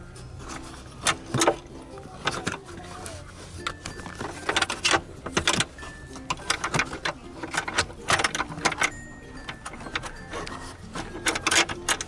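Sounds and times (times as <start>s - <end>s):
metal and plastic parts rattling: 0.0s - 12.0s.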